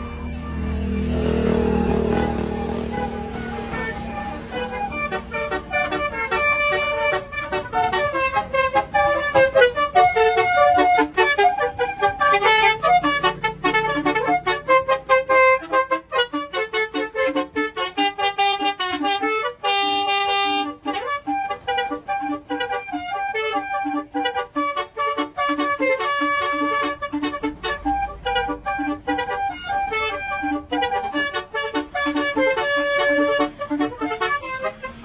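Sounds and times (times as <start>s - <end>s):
musical vehicle horn melody: 0.0s - 35.0s.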